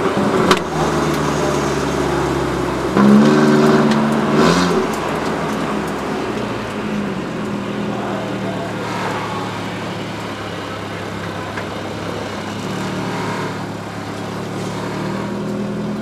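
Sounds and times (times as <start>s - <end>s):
race car engine: 0.0s - 16.0s
road and tyre noise: 0.0s - 16.0s.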